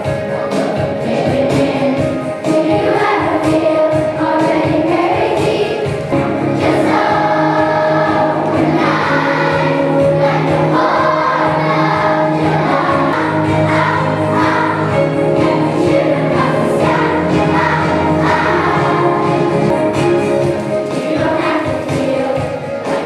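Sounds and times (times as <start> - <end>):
accompaniment with steady beat: 0.0 - 23.0
children's choir singing: 0.0 - 23.0.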